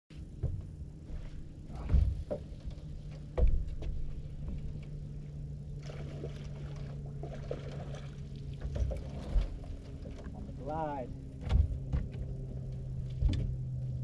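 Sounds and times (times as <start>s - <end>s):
boat motor humming: 0.1s - 14.0s
water splashing against boat: 0.4s - 14.0s.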